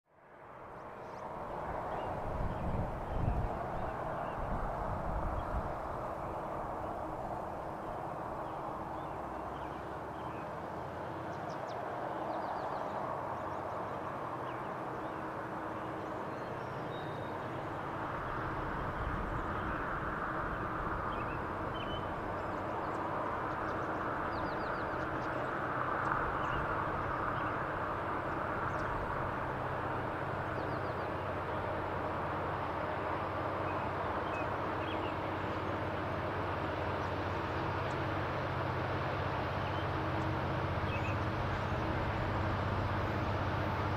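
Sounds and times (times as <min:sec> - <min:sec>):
distant diesel locomotive drone: 0:00.1 - 0:43.9.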